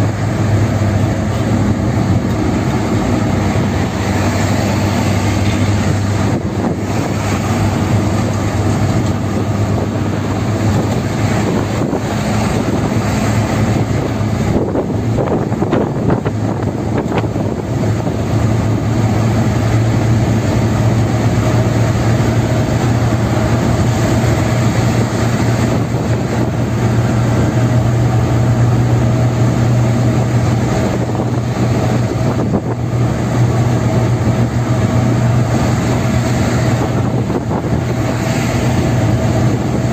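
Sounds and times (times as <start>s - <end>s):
car road and engine drone: 0.0s - 39.9s
low hum: 0.0s - 39.9s.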